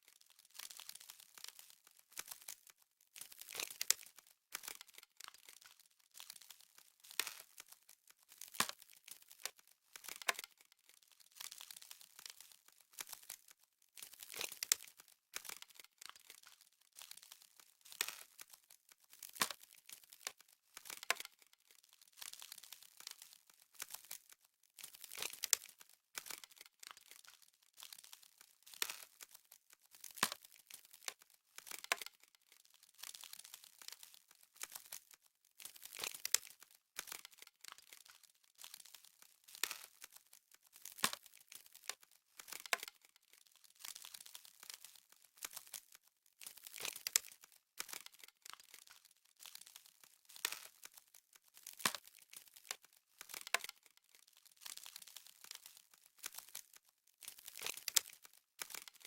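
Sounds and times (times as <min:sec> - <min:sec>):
frost crackling: 0:00.1 - 0:59.0.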